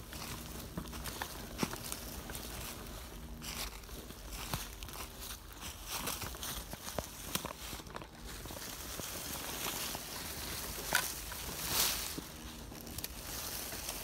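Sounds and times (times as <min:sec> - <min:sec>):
leaves rustling under tyres: 0:00.0 - 0:14.0.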